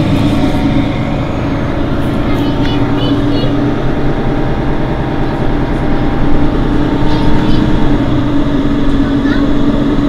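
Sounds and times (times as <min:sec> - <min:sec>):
bus diesel engine idling: 0:00.0 - 0:10.0.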